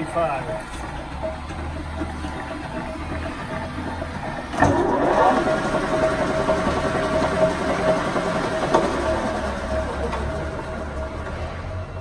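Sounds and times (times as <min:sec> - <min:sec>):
lathe gear whine: 0:00.0 - 0:12.0.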